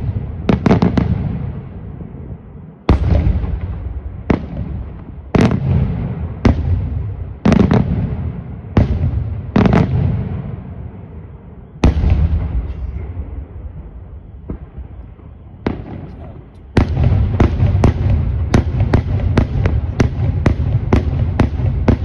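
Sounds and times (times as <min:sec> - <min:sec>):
fireworks bangs with echo: 0:00.0 - 0:22.0.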